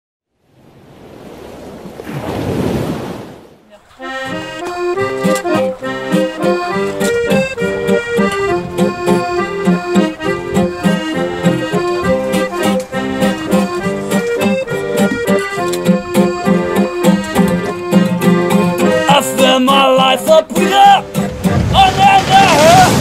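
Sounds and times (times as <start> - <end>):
accordion playing folk tune: 3.7 - 23.0
acoustic guitar accompanying: 3.7 - 23.0.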